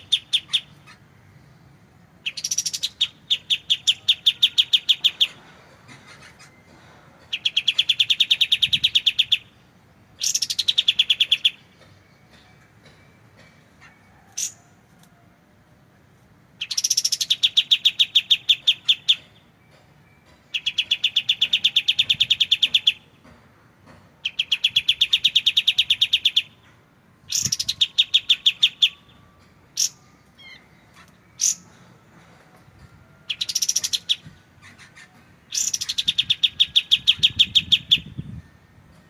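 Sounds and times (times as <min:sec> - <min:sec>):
bird song rattling trills: 0:00.0 - 0:01.1, 0:02.2 - 0:14.6, 0:16.6 - 0:23.4, 0:24.2 - 0:31.9, 0:33.3 - 0:38.5.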